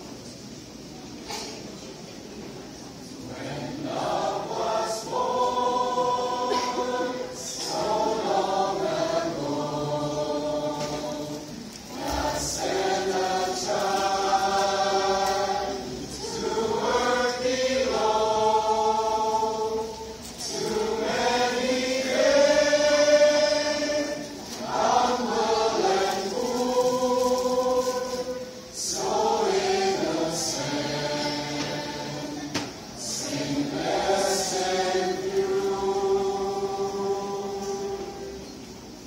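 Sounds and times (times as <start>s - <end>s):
mixed choir singing carol: 2.8s - 39.0s.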